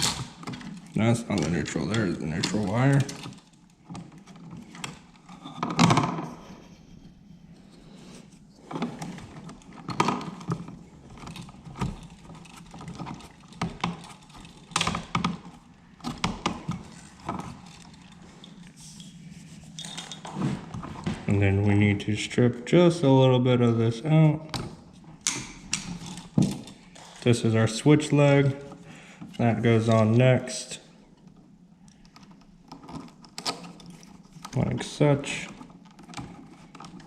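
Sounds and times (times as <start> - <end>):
wires clicking and scraping: 0.0 - 22.0, 23.6 - 37.0.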